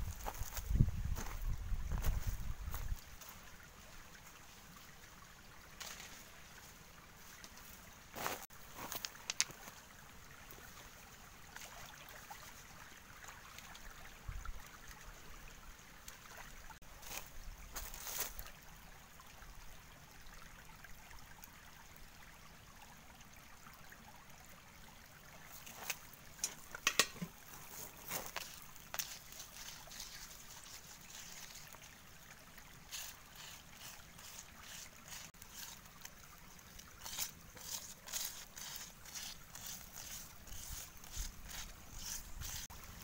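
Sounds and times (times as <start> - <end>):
stream trickling over rocks: 0.0 - 43.0.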